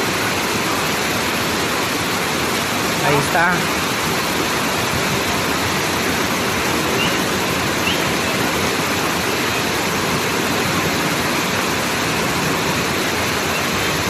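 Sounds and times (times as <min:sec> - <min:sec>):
rush of floodwater: 0:00.0 - 0:14.0.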